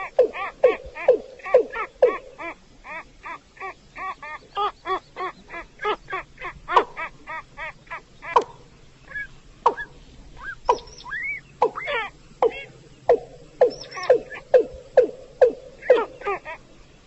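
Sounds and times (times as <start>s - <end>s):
bird calling hollow notes: 0.0s - 16.8s.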